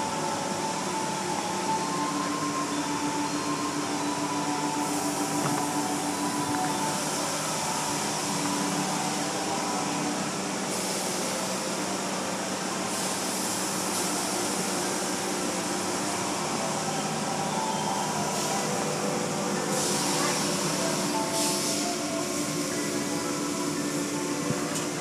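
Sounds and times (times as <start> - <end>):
car wash machinery hum: 0.0 - 25.0.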